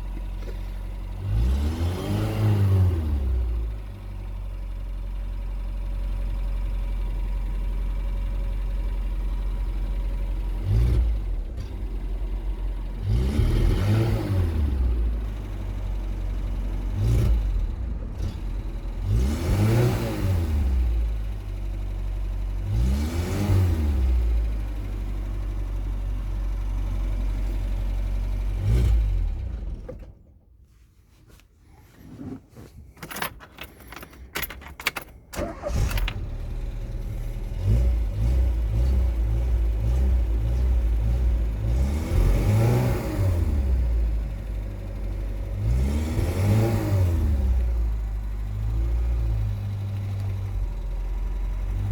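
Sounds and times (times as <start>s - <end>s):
van engine idling and revving: 0.0s - 30.4s, 31.8s - 51.9s.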